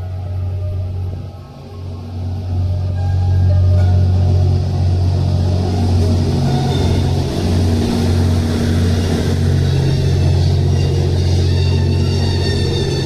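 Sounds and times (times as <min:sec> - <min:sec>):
diesel train engines droning: 0:00.0 - 0:13.0.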